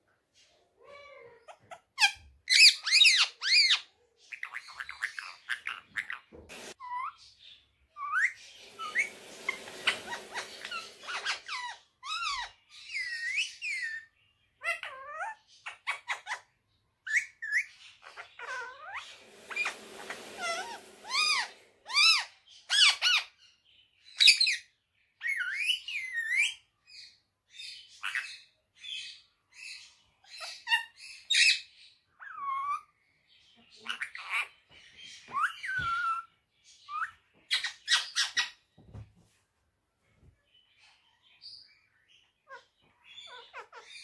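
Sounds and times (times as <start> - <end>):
parakeet chirps and squawks: 0.4 - 38.7, 40.8 - 44.0.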